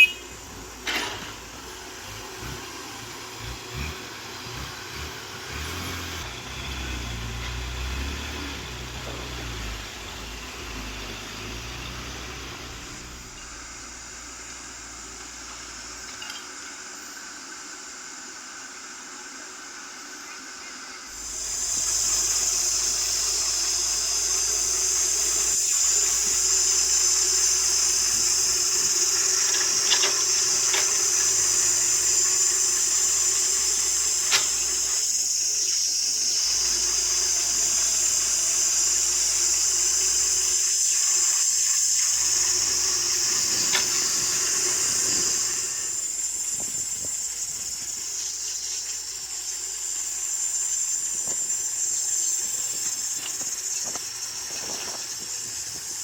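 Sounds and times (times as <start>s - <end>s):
heavy machinery engine rumbling: 0.0s - 17.6s, 21.1s - 56.0s
loud steady hiss: 0.0s - 56.0s.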